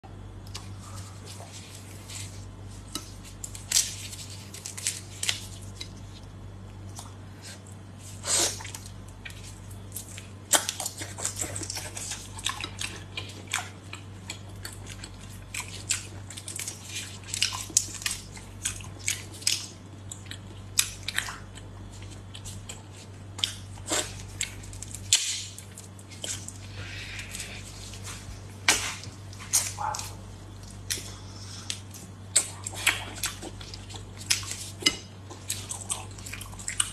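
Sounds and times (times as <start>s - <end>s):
person chewing: 0.4s - 36.9s.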